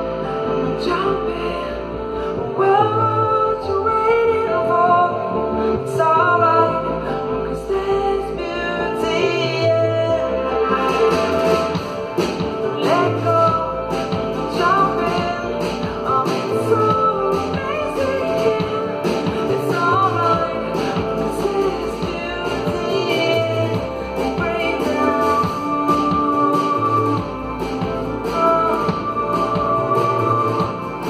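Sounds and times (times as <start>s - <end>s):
live band music: 0.0s - 31.0s
woman singing: 0.0s - 31.0s.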